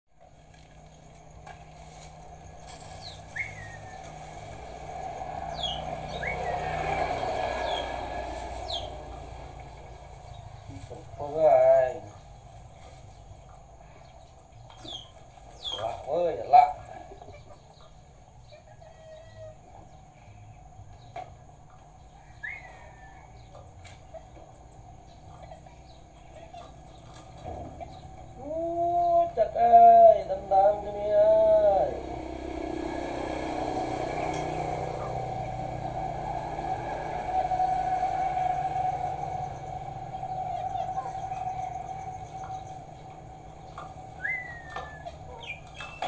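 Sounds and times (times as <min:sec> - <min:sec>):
chicks peeping: 0:00.9 - 0:20.2, 0:21.0 - 0:32.1, 0:38.8 - 0:46.0.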